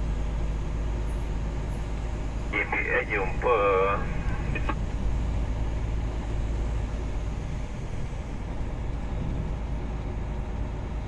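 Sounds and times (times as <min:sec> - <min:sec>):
tyre road noise: 0:00.0 - 0:11.0
vehicle engine rumble: 0:00.0 - 0:11.0.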